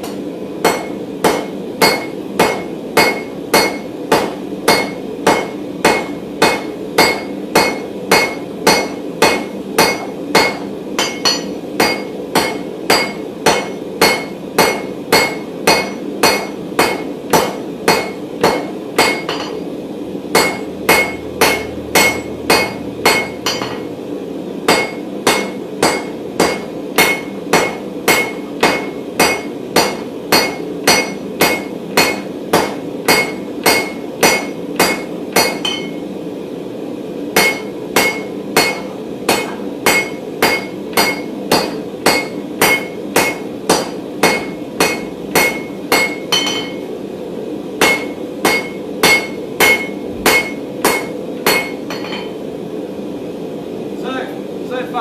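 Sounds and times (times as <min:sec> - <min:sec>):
hammer striking steel on anvil: 0:00.0 - 0:19.7, 0:20.3 - 0:23.9, 0:24.7 - 0:36.1, 0:37.4 - 0:46.9, 0:47.8 - 0:52.4
steady hum: 0:00.0 - 0:55.0.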